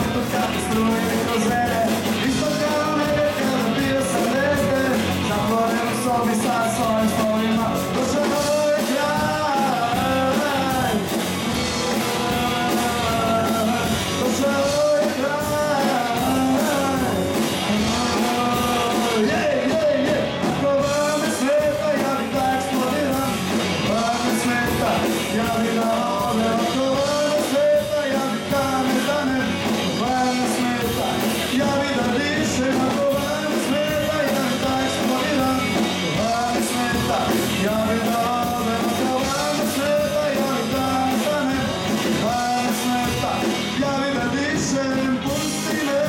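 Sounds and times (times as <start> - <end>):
electric guitars: 0.0 - 46.0
lead vocal singing: 0.0 - 46.0
steady drum beat: 0.0 - 46.0.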